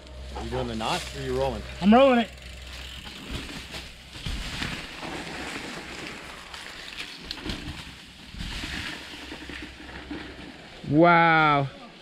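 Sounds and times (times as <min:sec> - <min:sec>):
bike tyres on dirt and leaves: 0:00.0 - 0:12.0
bike knocking and rattling: 0:00.3 - 0:10.8.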